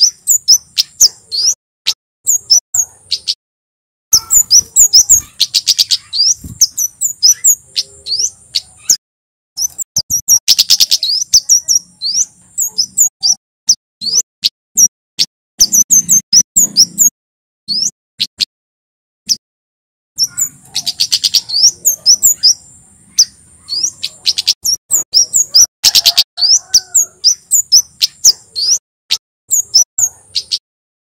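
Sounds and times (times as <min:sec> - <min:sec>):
bird singing high chips: 0:00.0 - 0:03.4, 0:04.1 - 0:09.0, 0:09.6 - 0:17.1, 0:17.7 - 0:18.5, 0:20.2 - 0:30.6.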